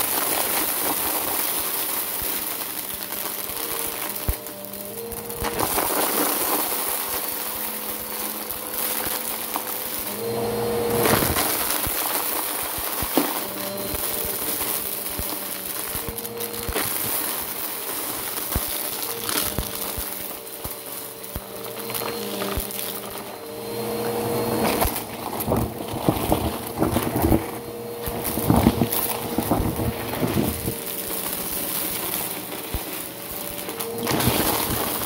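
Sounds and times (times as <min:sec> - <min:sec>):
debris rattling through vacuum: 0:00.0 - 0:35.0
vacuum cleaner motor hum: 0:00.0 - 0:35.0.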